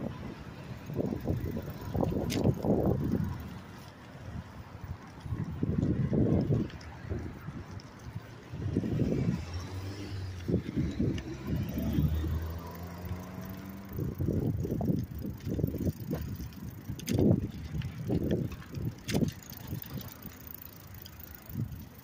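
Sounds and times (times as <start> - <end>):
bicycle clicks: 0.0 - 22.0
bicycle bumping and knocking: 0.9 - 3.9, 5.1 - 22.0.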